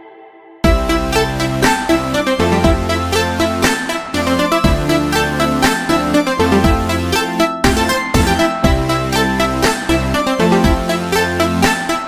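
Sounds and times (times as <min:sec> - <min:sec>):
electronic dance music: 0:00.6 - 0:12.0.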